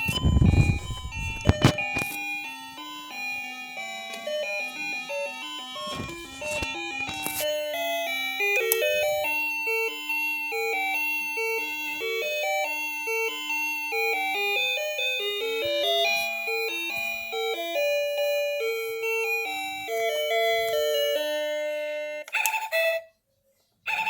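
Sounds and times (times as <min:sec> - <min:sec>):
electronic doorbell chime melody: 0:00.0 - 0:23.1.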